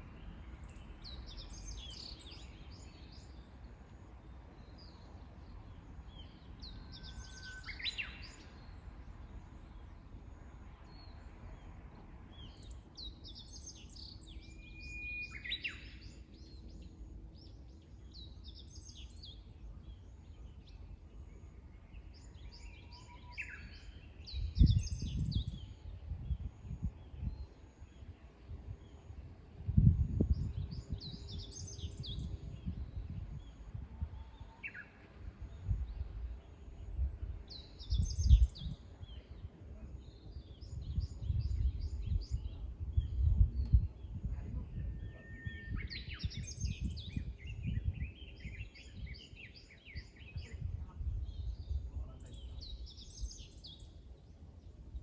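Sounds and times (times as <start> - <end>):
steady low outdoor hiss: 0.0 - 55.0
wild birds singing: 0.0 - 55.0.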